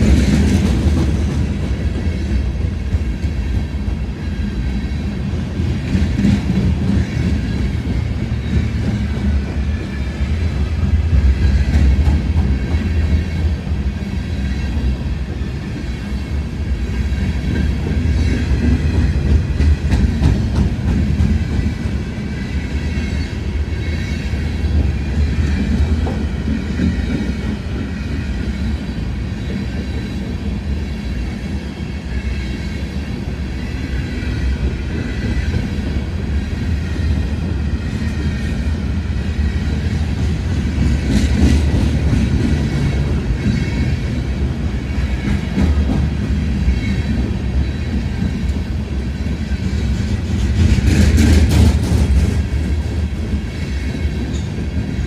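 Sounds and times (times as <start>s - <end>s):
train rumbling: 0.0s - 55.0s
train wheel clatter: 0.0s - 55.0s.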